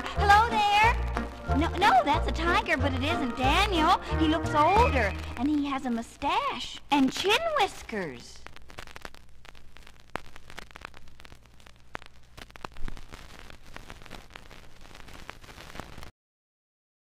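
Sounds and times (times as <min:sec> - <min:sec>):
vinyl crackles and pops: 0:00.0 - 0:16.1
faint hiss: 0:00.1 - 0:16.1.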